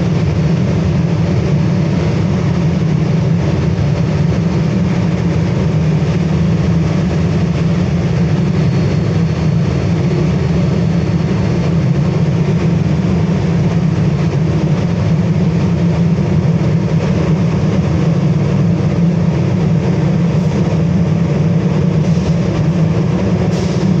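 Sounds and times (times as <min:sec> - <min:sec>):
furnace burner rumbling: 0:00.0 - 0:24.0.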